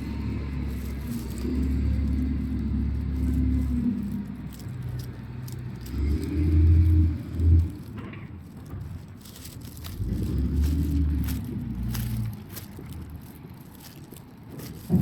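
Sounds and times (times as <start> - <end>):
heavy diesel truck engine: 0.0 - 15.0.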